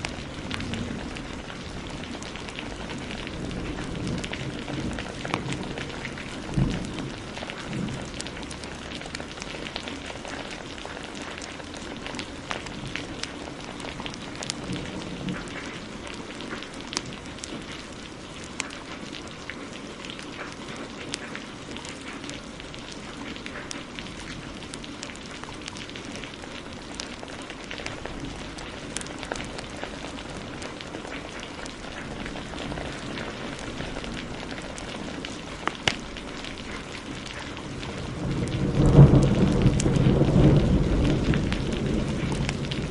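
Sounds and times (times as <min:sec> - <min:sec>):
heavy rain: 0:00.0 - 0:42.9
wood fire crackling and popping: 0:00.0 - 0:42.9.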